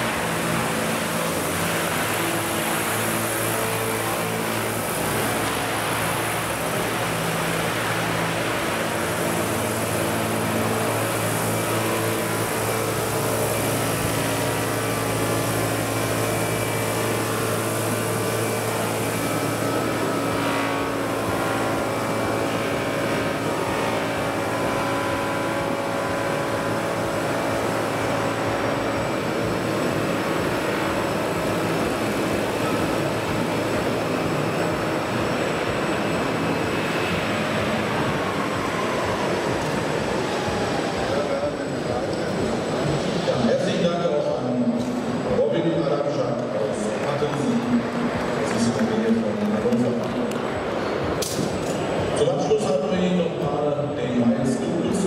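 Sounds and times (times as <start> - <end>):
model helicopter rotors humming: 0.0 - 53.5.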